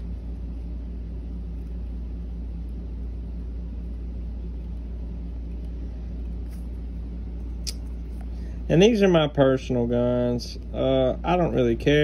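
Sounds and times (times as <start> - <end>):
faint hum: 0.0 - 12.0
steady low rumble: 0.0 - 12.0.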